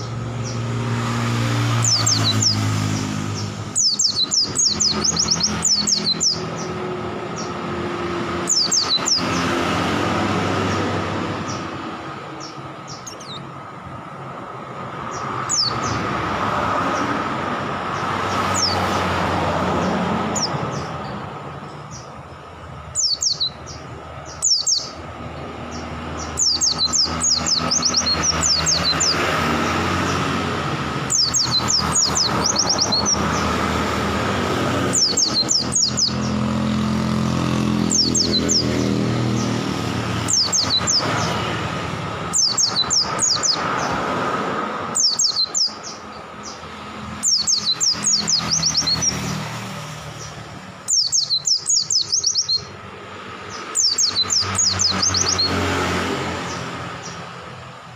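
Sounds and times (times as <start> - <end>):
bird chirping: 0.0 - 57.7
vehicle engine humming: 0.0 - 57.9.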